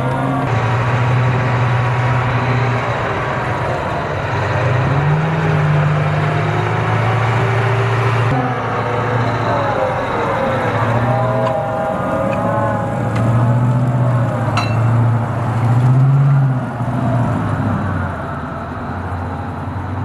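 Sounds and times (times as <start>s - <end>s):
tracks clanking: 0.0s - 18.3s
diesel engine with whine: 0.0s - 20.0s.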